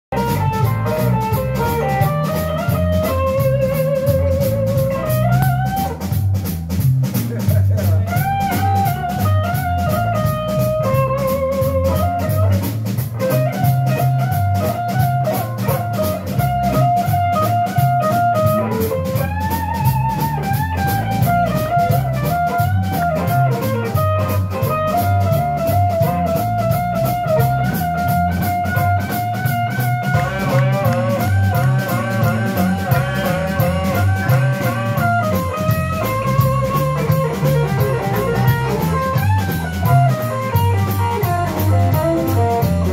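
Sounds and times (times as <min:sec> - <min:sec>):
drums: 0:00.0 - 0:42.9
electric bass: 0:00.0 - 0:42.9
electric guitar lead lines: 0:00.1 - 0:42.9.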